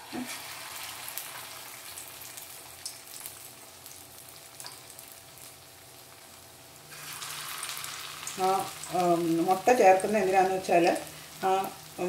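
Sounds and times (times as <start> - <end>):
prawn sizzling in oil: 0.0 - 12.0.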